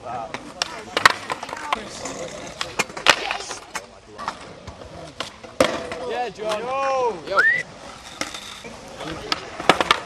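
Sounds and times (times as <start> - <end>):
skateboard clacking on asphalt: 0.2 - 6.9, 7.8 - 10.0.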